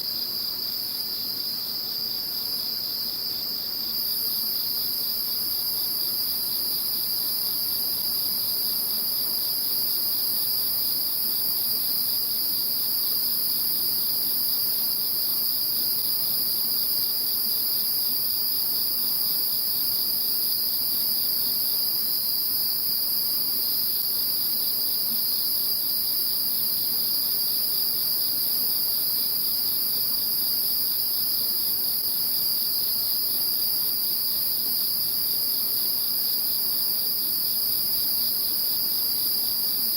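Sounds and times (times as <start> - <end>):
rapidly pulsing insect trill: 0.0 - 39.9.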